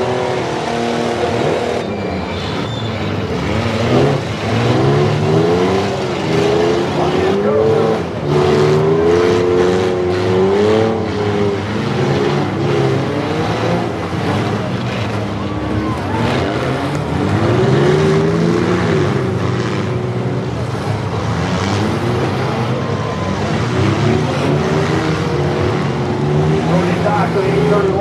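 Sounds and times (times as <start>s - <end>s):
car engines revving hard: 0.0s - 28.0s
din of running engines: 0.0s - 28.0s.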